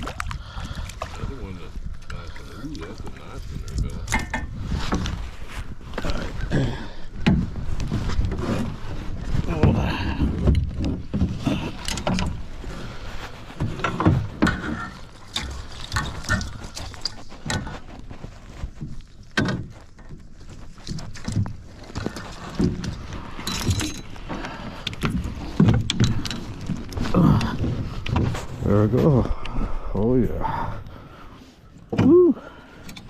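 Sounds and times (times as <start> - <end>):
knocks and clunks in a boat: 0.0 - 33.0.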